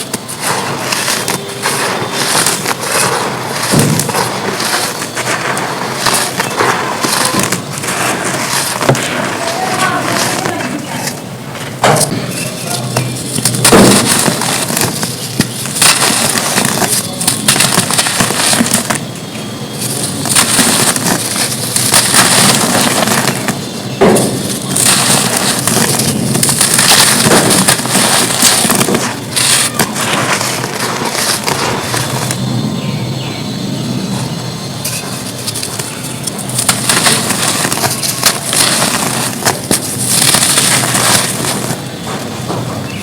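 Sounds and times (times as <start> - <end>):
sharp cracks of dirt breaking: 0.0 - 10.8, 11.8 - 32.4, 34.9 - 43.0
dry dirt crumbling and crunching: 0.0 - 43.0.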